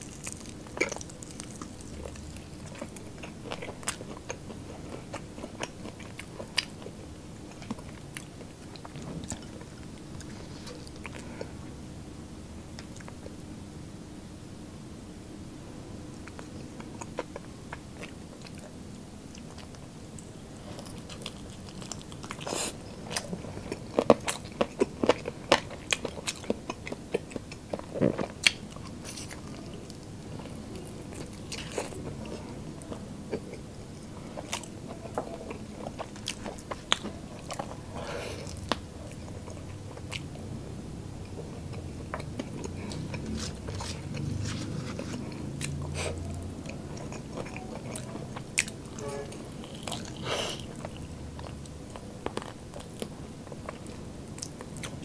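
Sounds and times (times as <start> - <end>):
crunchy chewing: 0.0 - 11.6, 16.2 - 40.6, 41.2 - 55.0.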